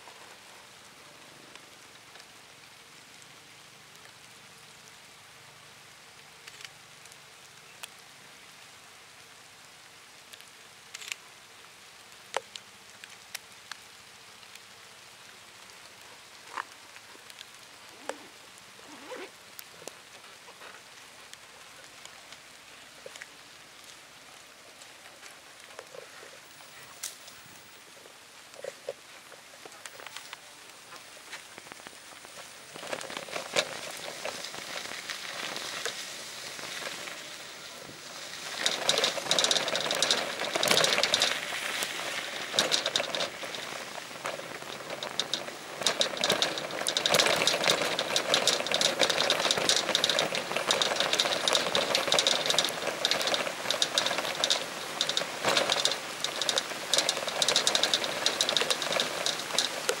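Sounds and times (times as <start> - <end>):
rain drops clicking on surface: 0.0 - 60.0.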